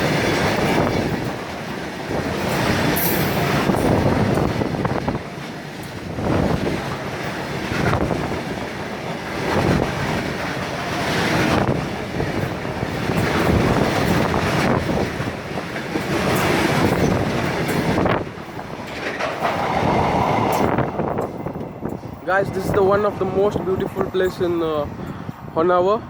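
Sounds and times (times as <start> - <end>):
train wheels clattering: 0.0 - 25.3.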